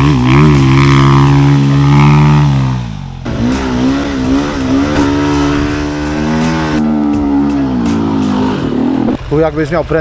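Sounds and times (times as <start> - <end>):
dirt bike engine revving: 0.0 - 9.3.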